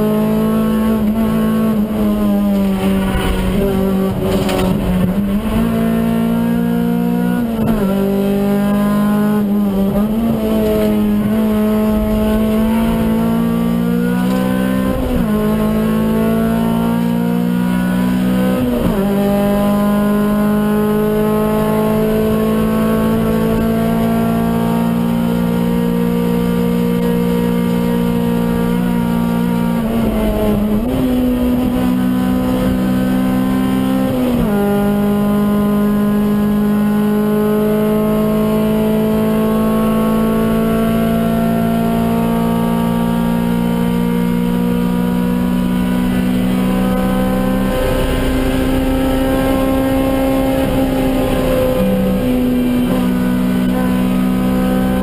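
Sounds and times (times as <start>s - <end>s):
car engine revving high: 0.0s - 55.0s.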